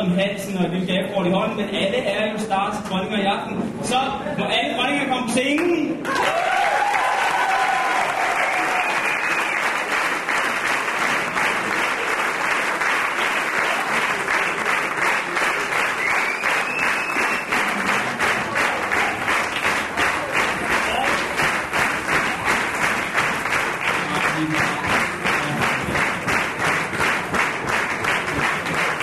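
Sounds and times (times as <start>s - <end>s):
audience clapping in rhythm: 5.4s - 29.0s.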